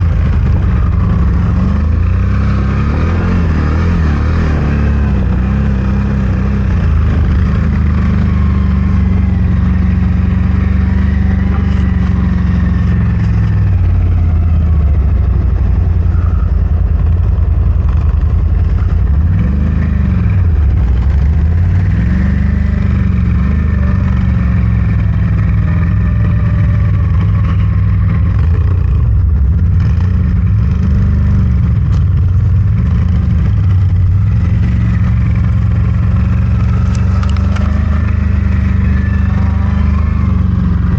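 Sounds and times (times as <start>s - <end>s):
engine revving under load: 0.0s - 40.9s.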